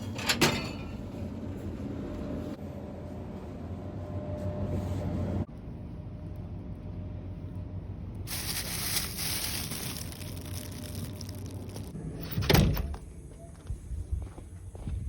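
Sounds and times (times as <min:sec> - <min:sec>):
low steady rumble: 0:01.0 - 0:14.2.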